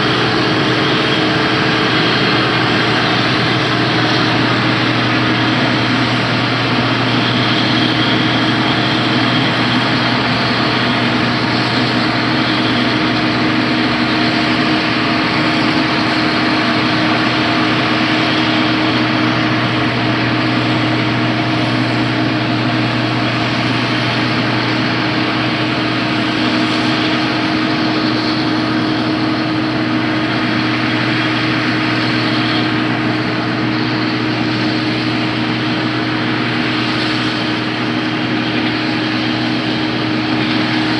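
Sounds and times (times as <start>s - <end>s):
large engine humming: 0.0s - 40.9s.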